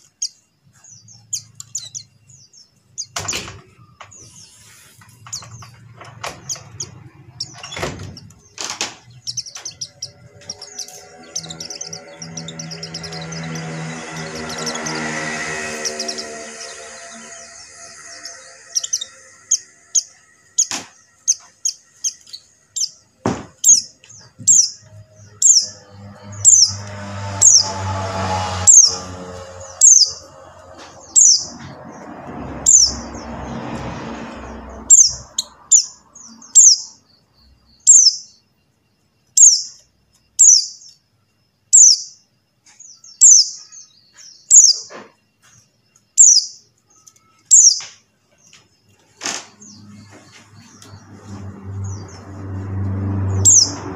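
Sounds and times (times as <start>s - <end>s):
bird high chirps: 0.0s - 33.6s, 34.3s - 38.5s, 39.2s - 41.0s, 41.7s - 53.9s.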